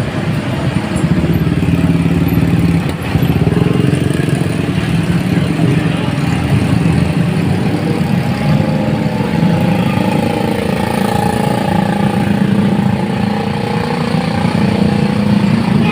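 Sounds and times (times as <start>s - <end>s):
large vehicle engine running: 0.0s - 15.9s.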